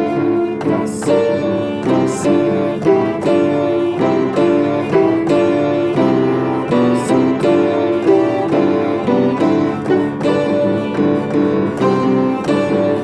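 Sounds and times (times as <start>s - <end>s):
instrumental music sustained notes: 0.0s - 13.0s.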